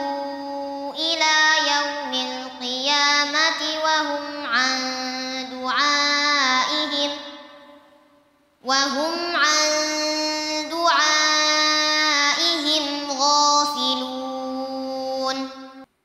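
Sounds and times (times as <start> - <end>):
boy chanting melodically: 0.0 - 15.9.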